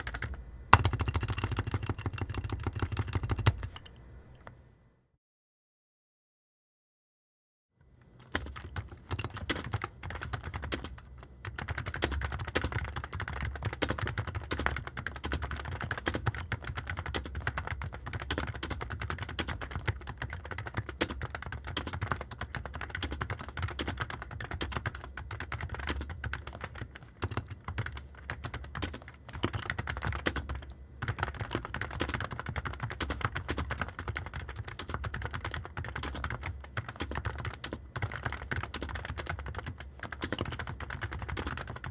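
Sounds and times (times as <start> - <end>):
keyboard typing: 0.0 - 4.0, 8.2 - 41.9.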